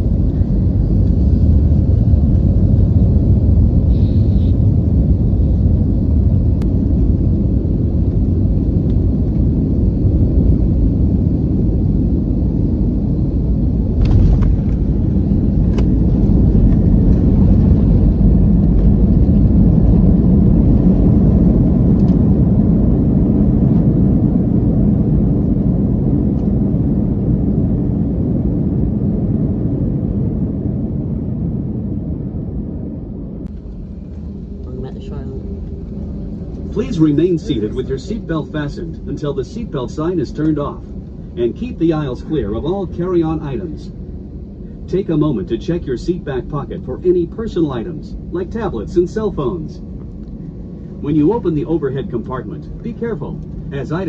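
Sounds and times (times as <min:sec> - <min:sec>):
airliner engines and rolling wheels: 0:00.0 - 0:54.0.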